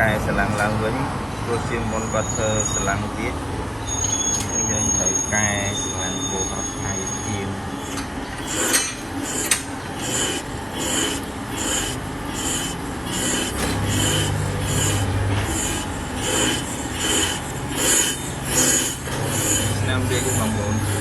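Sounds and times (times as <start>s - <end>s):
file rasping on metal: 3.9s - 21.0s.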